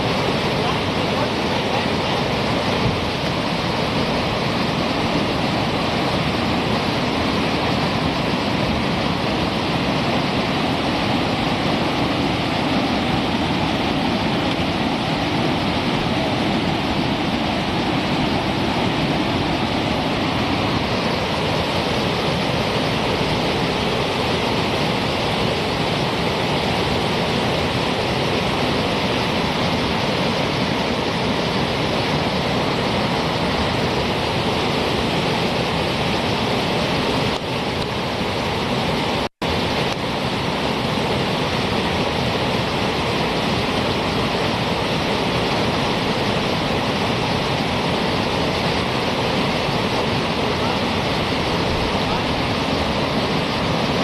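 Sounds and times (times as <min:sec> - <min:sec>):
rapids rushing over boulders: 0:00.0 - 0:54.0.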